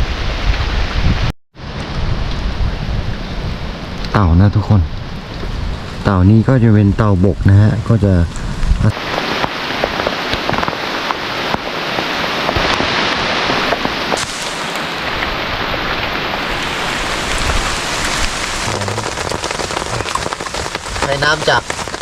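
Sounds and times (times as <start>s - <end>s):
heavy rain falling: 1.6s - 22.0s
raindrops striking close: 4.0s - 22.0s.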